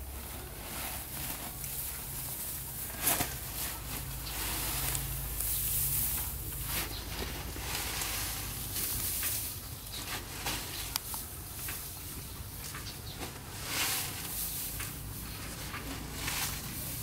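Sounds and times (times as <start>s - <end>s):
grass rustling and crackling: 0.0s - 17.0s.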